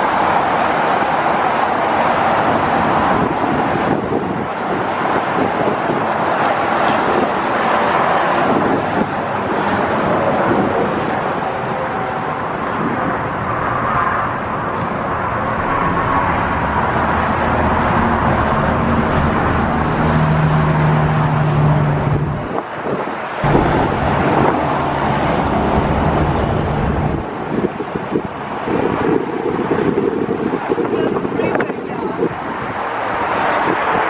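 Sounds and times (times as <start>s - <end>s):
car road noise: 0.0s - 34.0s.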